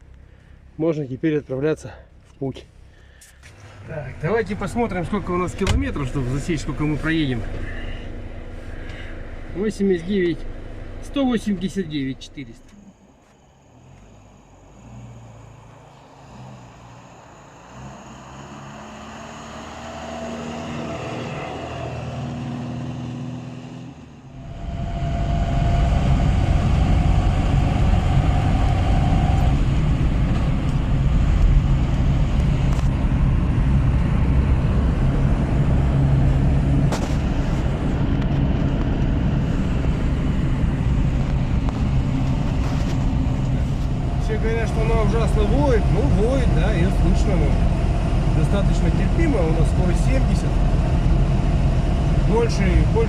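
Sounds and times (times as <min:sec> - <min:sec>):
car cruising drone with whine: 0:00.0 - 0:53.0
car engine accelerating: 0:03.6 - 0:53.0.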